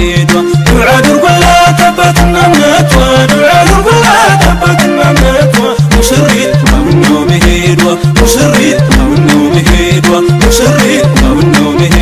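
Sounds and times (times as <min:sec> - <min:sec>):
deep drum beat: 0:00.0 - 0:12.0
wedding song with drum and bass: 0:00.0 - 0:12.0.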